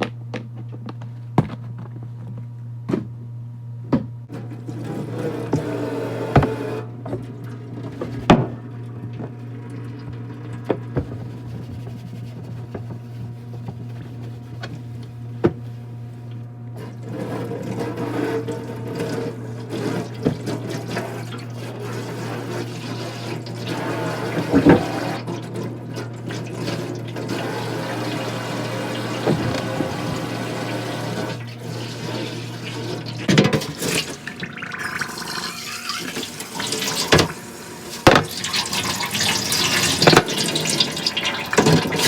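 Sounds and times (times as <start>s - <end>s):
tap water running: 4.3s - 42.0s.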